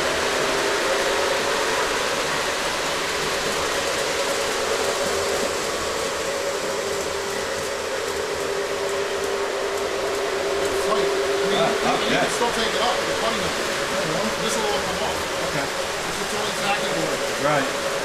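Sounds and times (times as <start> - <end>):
model train wheels on track: 0.0 - 18.0.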